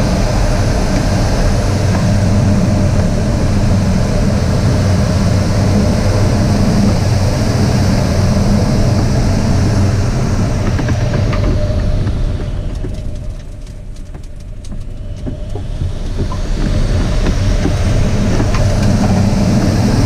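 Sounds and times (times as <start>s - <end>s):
airflow rushing around canopy: 0.0s - 20.0s.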